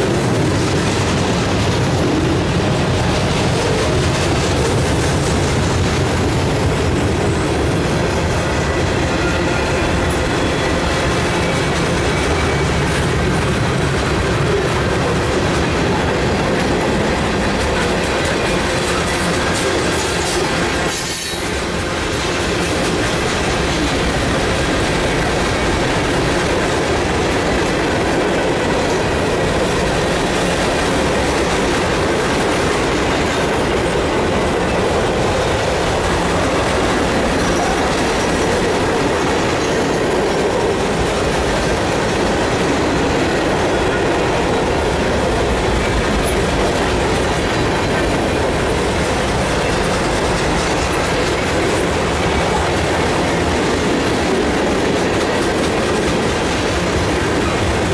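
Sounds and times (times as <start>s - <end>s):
steel wheels rumbling on rails: 0.0s - 57.9s.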